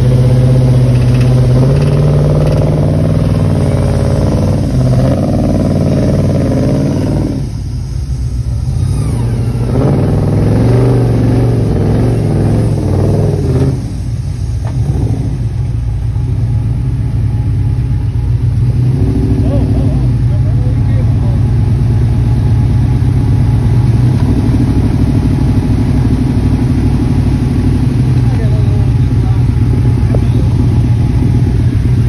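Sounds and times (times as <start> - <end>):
buggy engine revving: 0.0 - 32.0.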